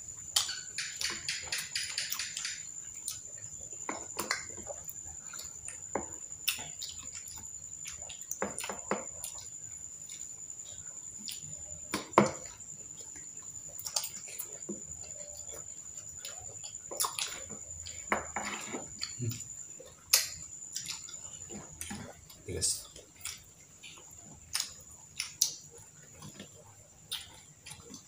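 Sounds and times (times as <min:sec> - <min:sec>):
wet chewing and smacking: 0:00.1 - 0:18.1, 0:18.7 - 0:28.0.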